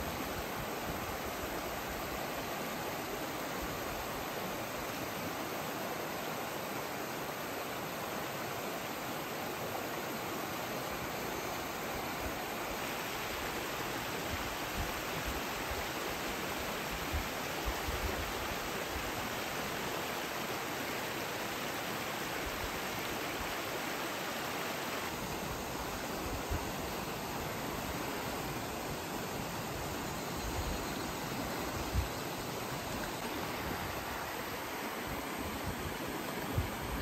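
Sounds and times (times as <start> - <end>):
river water babbling over stones: 0.0 - 37.0.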